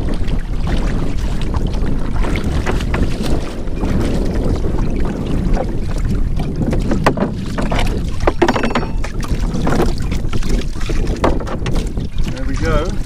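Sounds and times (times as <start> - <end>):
oars knocking and creaking: 0.0 - 13.0
water sloshing at hull: 0.0 - 13.0
wind buffeting microphone: 0.0 - 13.0.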